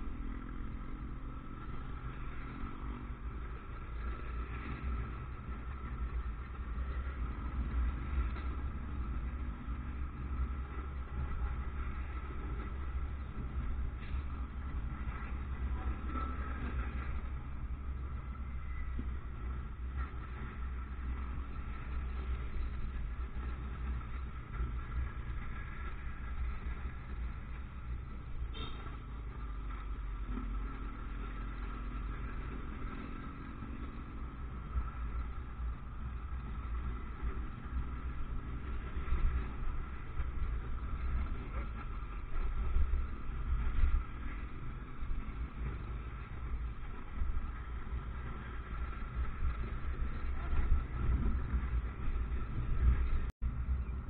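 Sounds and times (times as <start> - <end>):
motorcycle engine: 0.0 - 54.0
vehicles passing: 0.0 - 54.0
wind and road rumble: 0.0 - 54.0.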